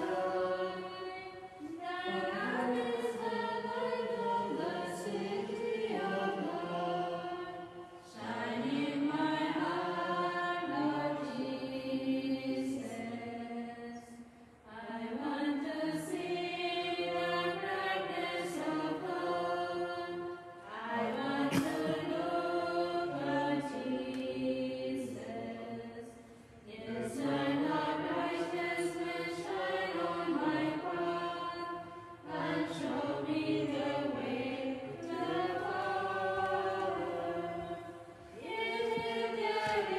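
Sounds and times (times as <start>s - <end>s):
women singing a hymn unaccompanied: 0.0s - 39.9s.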